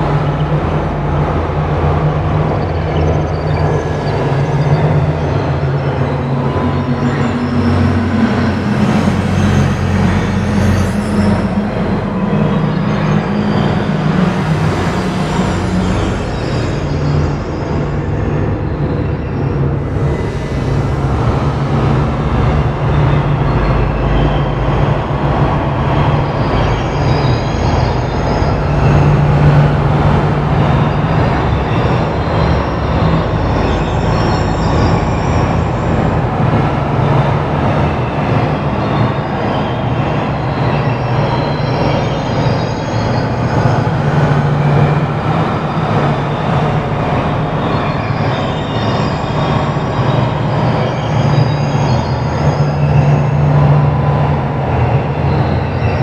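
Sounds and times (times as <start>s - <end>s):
dense rumbling noise: 0.0s - 56.0s
faint high whistling tones: 0.0s - 56.0s
low sustained hum: 0.0s - 56.0s.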